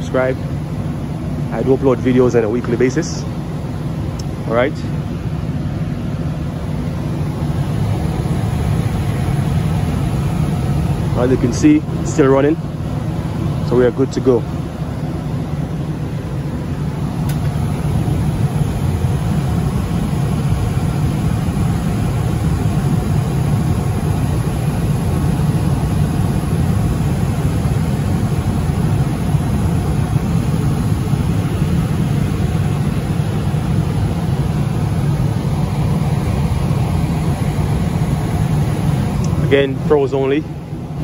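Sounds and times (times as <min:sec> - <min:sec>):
gas furnace humming: 0:00.0 - 0:41.0.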